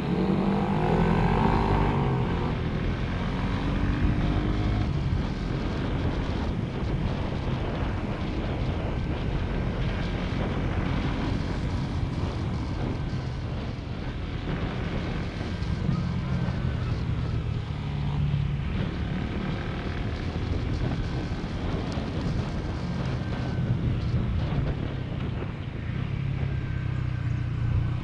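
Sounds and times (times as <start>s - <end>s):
motorcycle engine running: 0.0s - 28.0s
wind noise on microphone: 0.0s - 28.0s.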